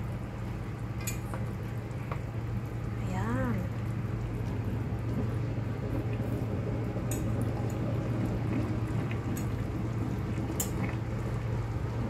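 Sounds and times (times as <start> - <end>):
steady low hum: 0.0 - 12.0
thick sauce bubbling: 0.0 - 12.0.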